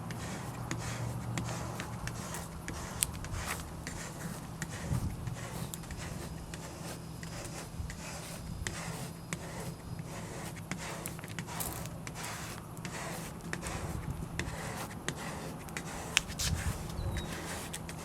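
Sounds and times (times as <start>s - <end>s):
squeegee scraping on window: 0.0s - 18.0s
steady low hum: 0.0s - 18.0s.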